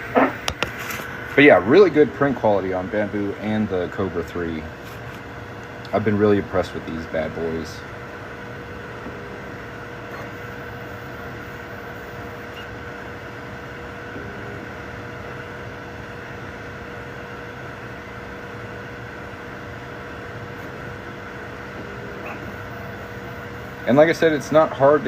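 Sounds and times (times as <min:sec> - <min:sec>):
constant whine: 0:00.0 - 0:25.0
printer fans and motors humming: 0:00.0 - 0:25.0.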